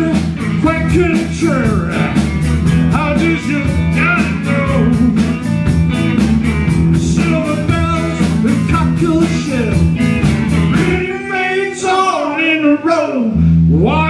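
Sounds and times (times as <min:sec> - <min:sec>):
drum kit beat: 0:00.0 - 0:11.8
live rock band playing: 0:00.0 - 0:13.5.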